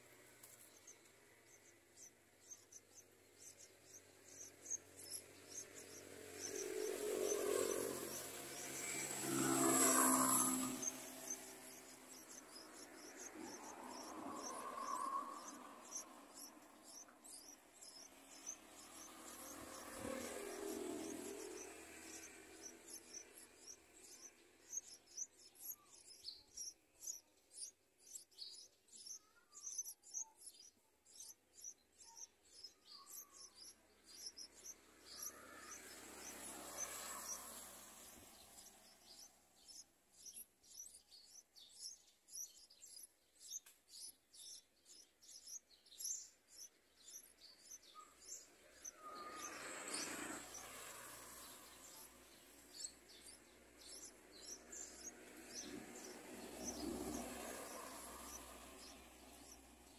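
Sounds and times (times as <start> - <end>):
nestlings chirping: 0.0 - 59.9.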